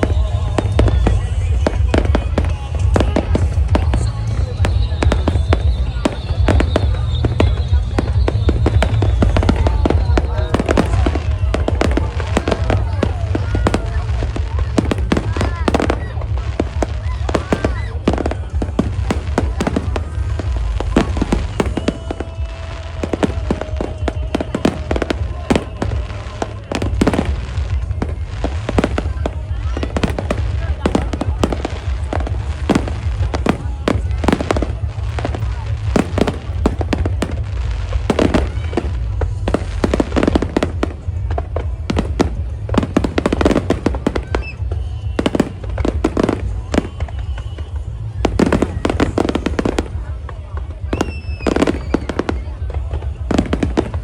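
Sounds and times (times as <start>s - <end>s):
steady low rumble: 0.0s - 51.0s
fireworks bangs: 0.0s - 54.0s.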